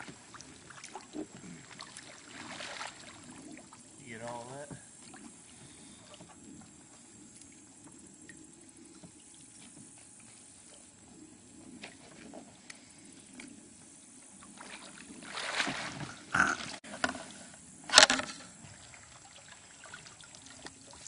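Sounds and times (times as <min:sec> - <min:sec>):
water splashing: 0:00.0 - 0:12.4, 0:13.5 - 0:17.3, 0:17.9 - 0:21.0
creek water murmuring: 0:00.0 - 0:21.0.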